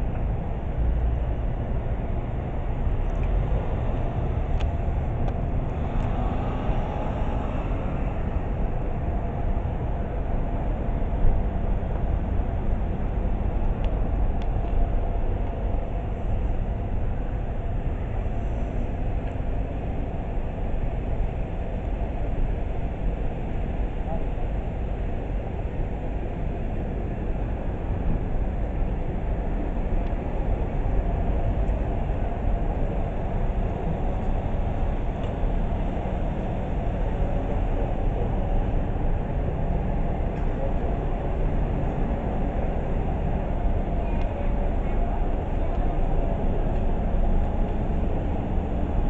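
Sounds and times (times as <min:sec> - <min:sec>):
low rumble of town ambience: 0:00.0 - 0:49.0.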